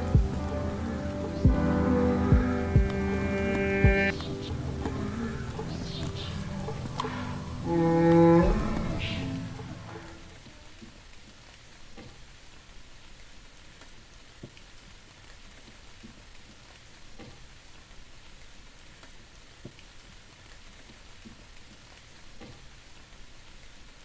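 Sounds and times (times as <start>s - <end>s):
light steady rain: 0.0s - 24.0s.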